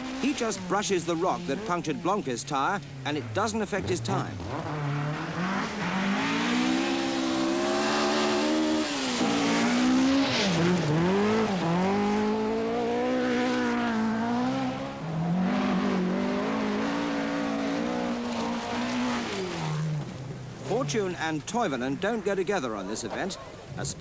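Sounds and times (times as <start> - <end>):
rally car engine revving hard: 0.0 - 21.2
gravel hiss: 0.0 - 24.0.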